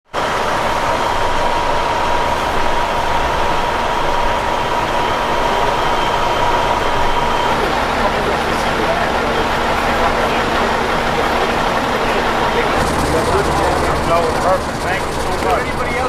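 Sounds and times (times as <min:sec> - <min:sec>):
engine running: 0:00.0 - 0:16.0
high whine: 0:00.1 - 0:16.0.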